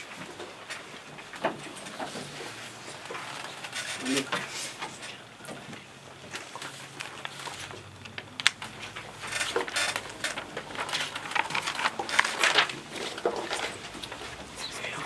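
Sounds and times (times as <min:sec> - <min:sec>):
paper sheets rustling: 0:00.0 - 0:15.0.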